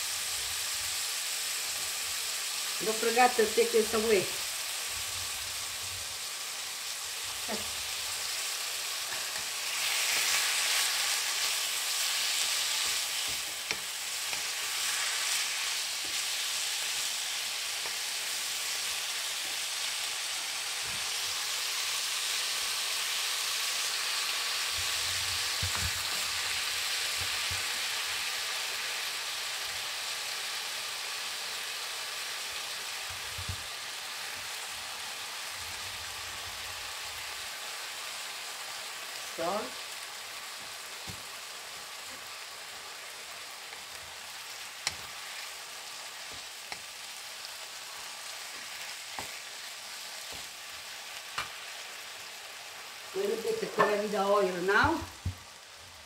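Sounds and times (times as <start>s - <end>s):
meat sizzling in hot oil: 0.0s - 56.0s.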